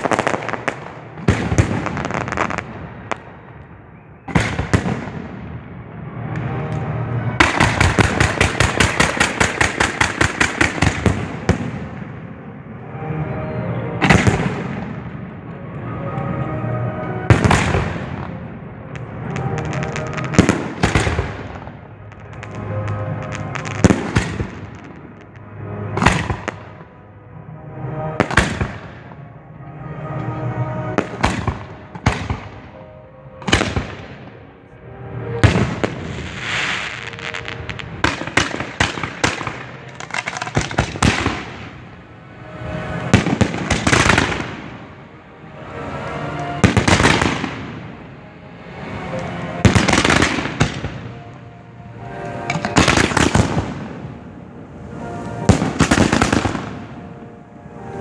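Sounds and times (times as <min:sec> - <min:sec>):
fireworks bangs: 0:00.0 - 0:12.5, 0:14.0 - 0:15.3, 0:17.1 - 0:26.9, 0:28.1 - 0:29.2, 0:30.4 - 0:34.4, 0:35.2 - 0:51.2, 0:52.0 - 0:58.0
fireworks crackling: 0:00.0 - 0:13.2, 0:14.0 - 0:27.0, 0:28.0 - 0:29.2, 0:29.9 - 0:58.0.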